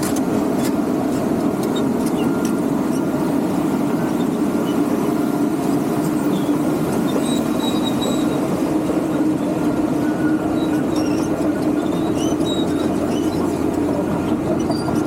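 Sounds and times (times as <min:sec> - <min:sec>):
excavator diesel engine running: 0:00.0 - 0:15.0
steel tracks squeaking: 0:00.0 - 0:15.0.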